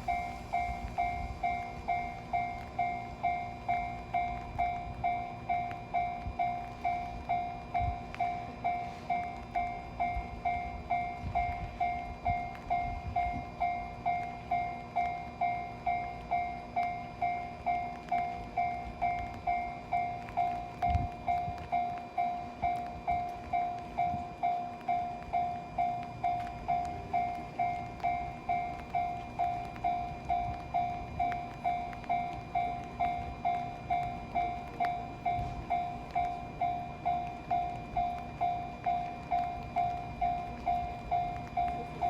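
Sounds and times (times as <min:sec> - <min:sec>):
level crossing warning bell: 0:00.0 - 0:42.0.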